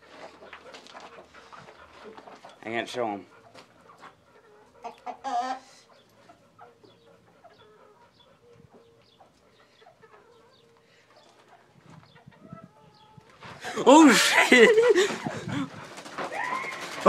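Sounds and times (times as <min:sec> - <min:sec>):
chickens clucking softly: 0:00.0 - 0:17.0.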